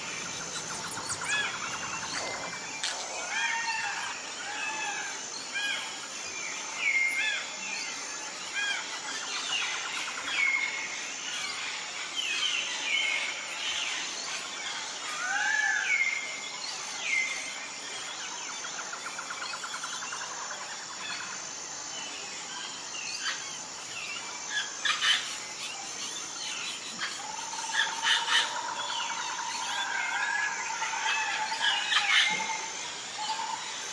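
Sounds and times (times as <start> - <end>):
birds chirping and trilling: 0.0 - 33.9.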